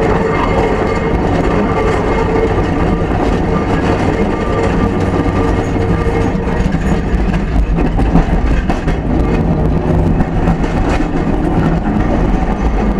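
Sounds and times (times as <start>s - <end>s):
traction motor hum: 0.0s - 12.9s
tram wheels rumbling on rails: 0.0s - 12.9s.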